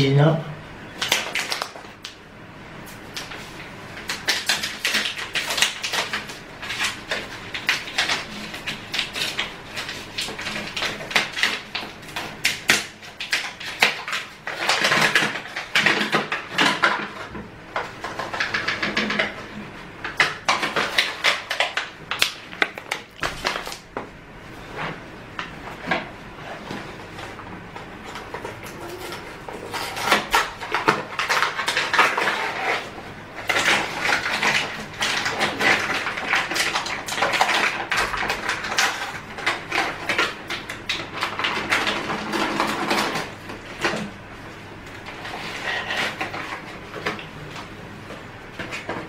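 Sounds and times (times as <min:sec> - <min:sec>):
clicks and knocks of objects: 0:04.0 - 0:24.0, 0:24.8 - 0:44.2.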